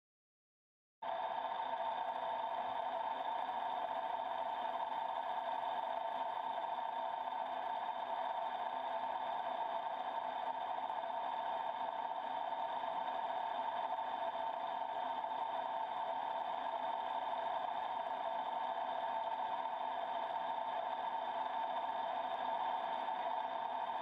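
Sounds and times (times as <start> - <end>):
milling machine hum and whine: 1.0 - 24.0.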